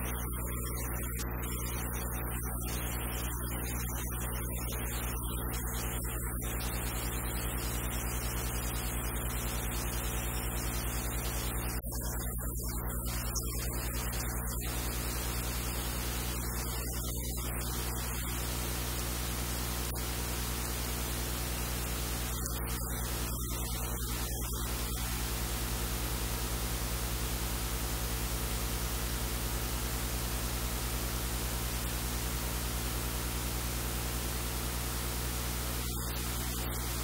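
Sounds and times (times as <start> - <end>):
static-like hiss: 0.0 - 37.0.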